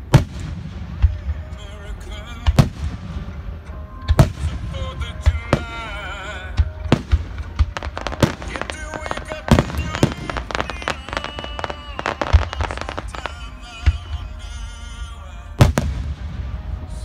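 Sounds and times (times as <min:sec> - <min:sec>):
fireworks bangs and crackles: 0:00.0 - 0:14.8, 0:15.6 - 0:17.0
music playing: 0:00.0 - 0:17.0.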